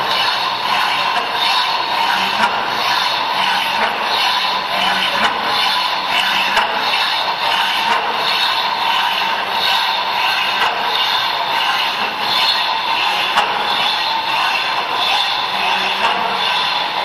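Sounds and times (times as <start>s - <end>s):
hacksaw sawing metal: 0.0s - 17.0s
clicks and clatter of linkage: 0.1s - 17.0s.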